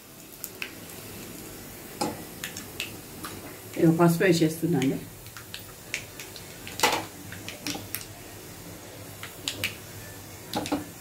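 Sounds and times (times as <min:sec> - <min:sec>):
hot oil popping and crackling: 0:00.0 - 0:11.0.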